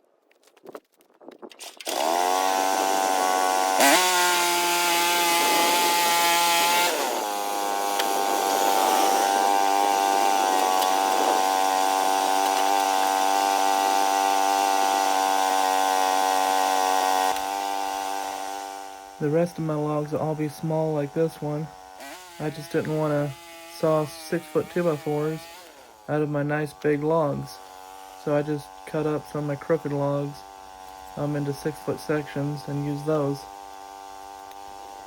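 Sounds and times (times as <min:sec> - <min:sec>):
sawmill engine running: 0:01.9 - 0:35.0.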